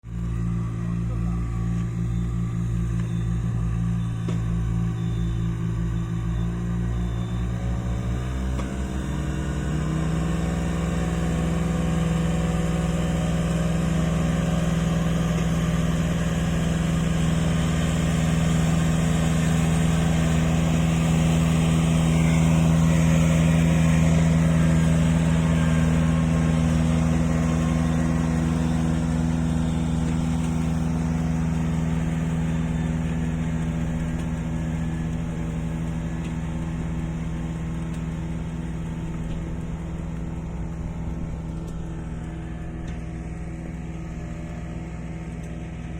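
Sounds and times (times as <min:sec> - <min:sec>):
small engine running steadily: 0:00.0 - 0:45.9.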